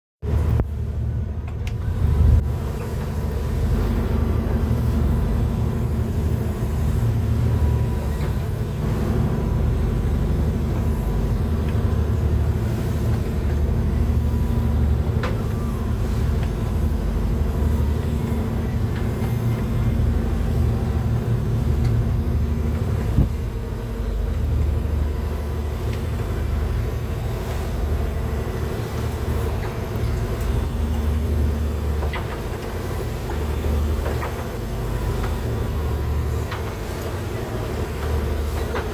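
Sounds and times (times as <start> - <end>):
boat engine rumbling: 0.2 - 38.9.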